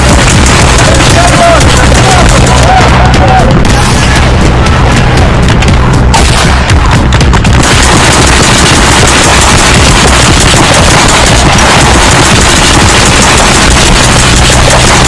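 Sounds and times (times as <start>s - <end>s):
music with heavy beat: 0.0s - 15.0s.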